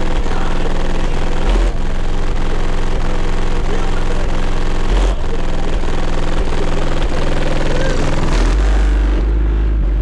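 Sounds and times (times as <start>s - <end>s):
bass-heavy music from car speakers: 0.0s - 10.0s.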